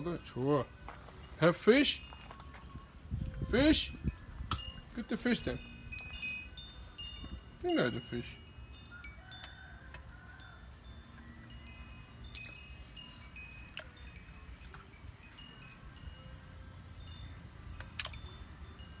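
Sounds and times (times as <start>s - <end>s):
wind chimes tinkling: 0.0s - 19.0s.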